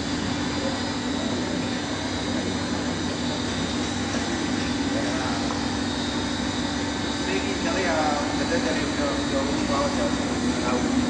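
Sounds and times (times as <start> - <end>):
machine drone with hum and hiss: 0.0 - 11.0.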